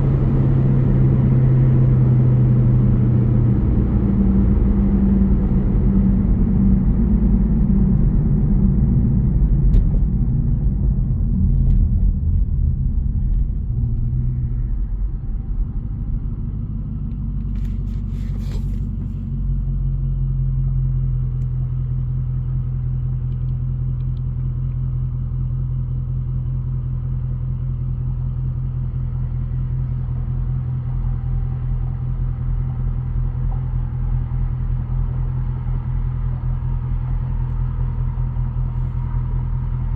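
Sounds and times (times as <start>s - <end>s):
car exhaust rumbling: 0.0s - 39.9s.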